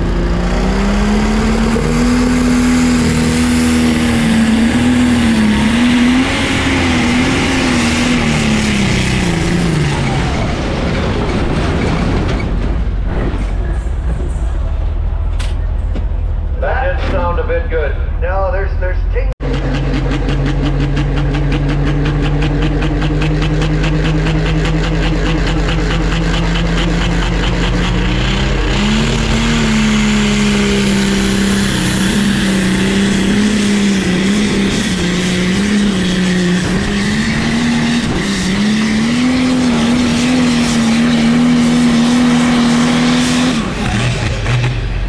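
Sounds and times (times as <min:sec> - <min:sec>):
diesel engine running under load: 0:00.0 - 0:45.0.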